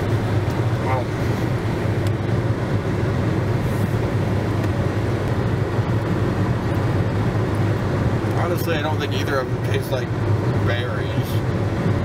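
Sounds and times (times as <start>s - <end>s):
car cabin road and engine drone: 0.0s - 12.0s.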